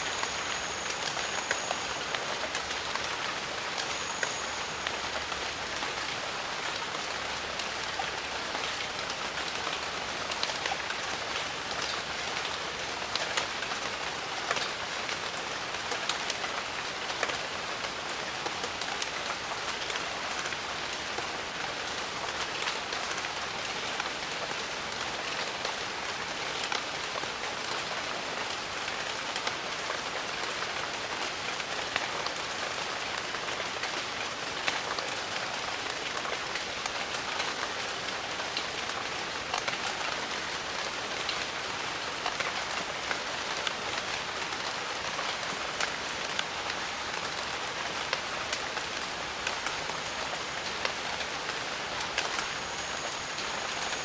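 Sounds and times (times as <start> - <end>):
raindrops pattering on leaves: 0.0 - 54.0
steady rain hiss: 0.0 - 54.0.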